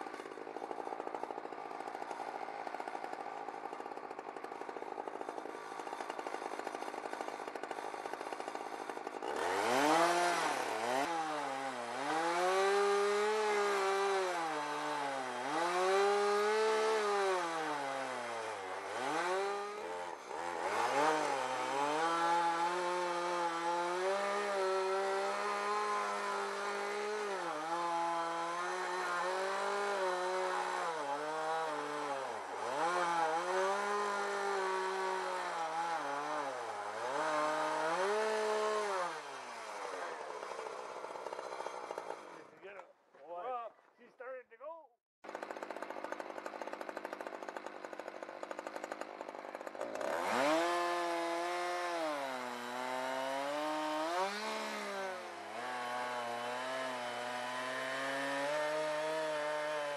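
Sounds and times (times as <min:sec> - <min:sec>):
chainsaw cutting log under load: 0:00.0 - 0:43.3, 0:45.2 - 0:59.9.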